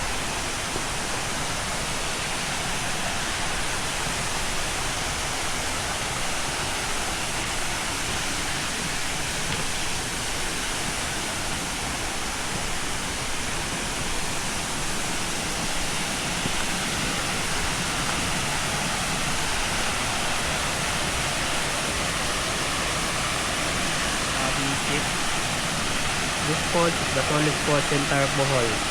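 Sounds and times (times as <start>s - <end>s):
waterfall roaring: 0.0s - 28.9s.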